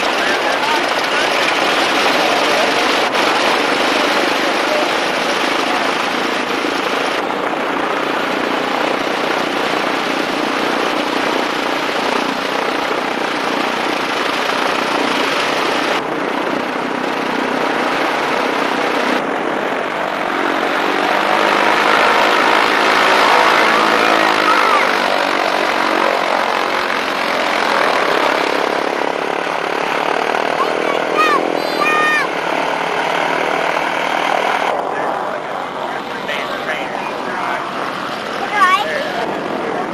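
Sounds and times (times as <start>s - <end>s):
dense steady rushing noise: 0.0s - 39.9s
propeller airplane engine drone: 0.0s - 39.9s.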